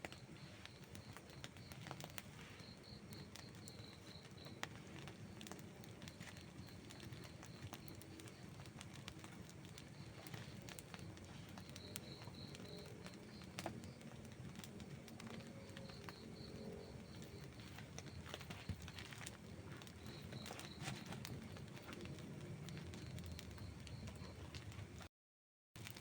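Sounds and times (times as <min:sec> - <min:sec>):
campfire crackling and popping: 0:00.0 - 0:25.1, 0:25.8 - 0:26.0.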